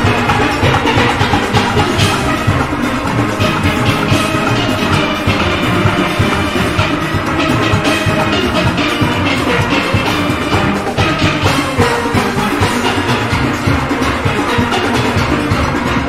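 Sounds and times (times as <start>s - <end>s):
drum and percussion beat: 0.0s - 16.0s
steelpans playing: 0.0s - 16.0s.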